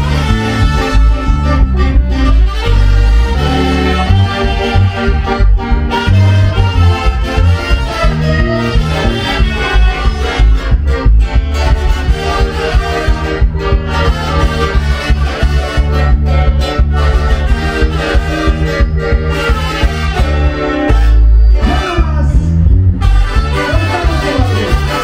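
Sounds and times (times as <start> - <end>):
orchestra playing latin dance music: 0.0 - 22.2, 22.9 - 25.0.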